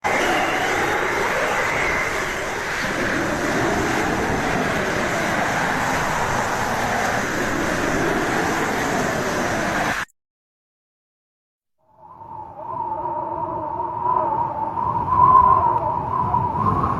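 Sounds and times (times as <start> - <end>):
howling wind: 0.0 - 10.1, 11.8 - 16.9.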